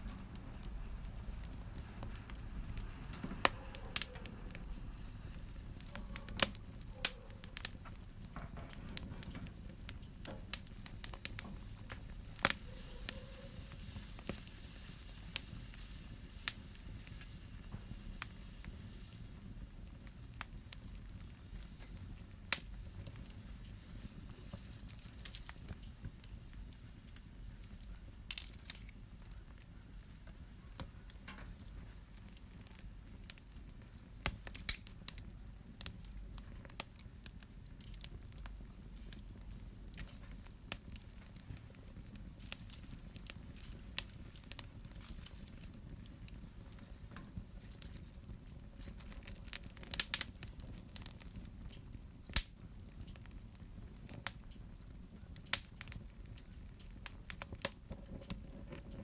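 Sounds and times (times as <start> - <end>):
fire crackling and popping: 0.0 - 59.0
low fire rumble: 0.0 - 59.0.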